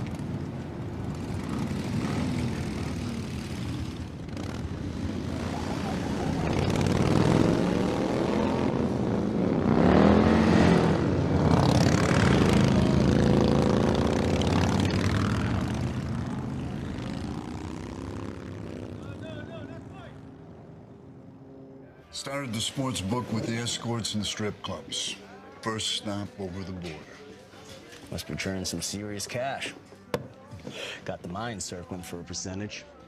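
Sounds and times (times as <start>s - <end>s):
vehicle engines passing by: 0.0s - 30.1s.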